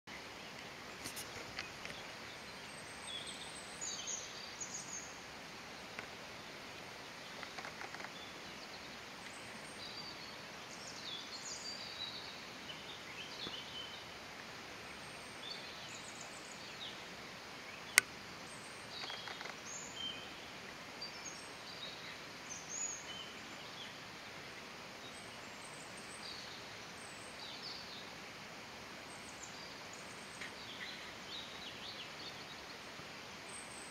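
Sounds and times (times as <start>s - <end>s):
small birds chirping: 0.1s - 33.9s
steady background hiss: 0.1s - 33.9s.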